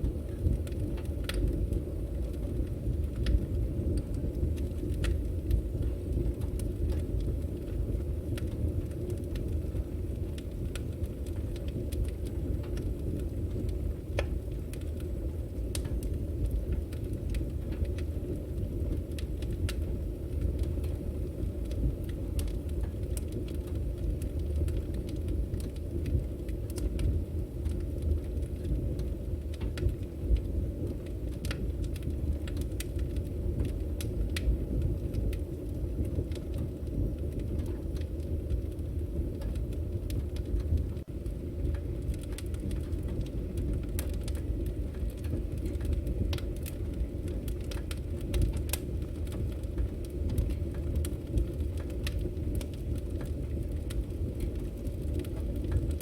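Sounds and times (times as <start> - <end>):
fire flames rumbling: 0.0 - 56.0
firewood crackling and popping: 0.0 - 56.0.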